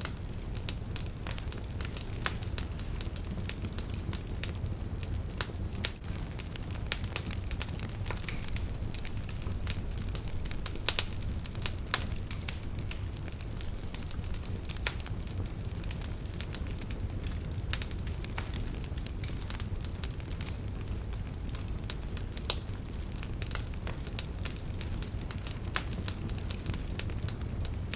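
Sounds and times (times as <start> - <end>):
campfire crackling: 0.0 - 27.9.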